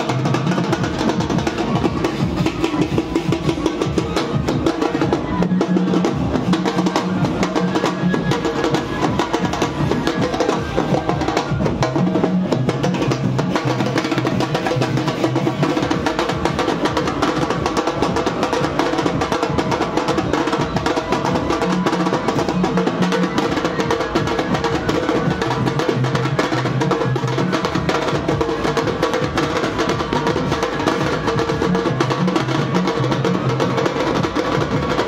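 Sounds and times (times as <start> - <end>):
fast continuous drumming: 0.0 - 35.0.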